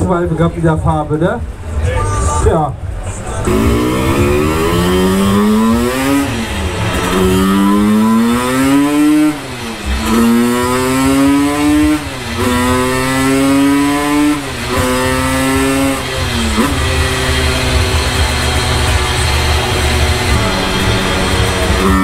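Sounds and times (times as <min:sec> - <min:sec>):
two-stroke engine at full throttle: 0:03.4 - 0:22.0.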